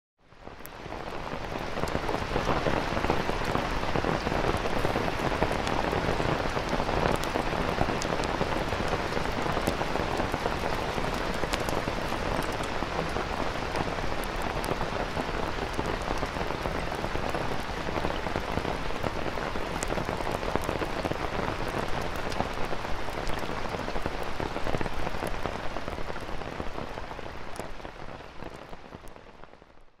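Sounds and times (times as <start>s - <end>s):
heavy rain on tent fabric: 0.2s - 30.0s.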